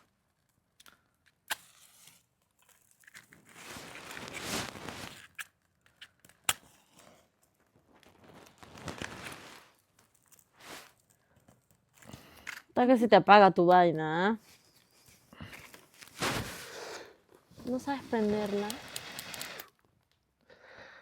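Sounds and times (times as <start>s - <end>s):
faint crinkling and rustling: 0.0s - 12.8s, 14.3s - 20.4s.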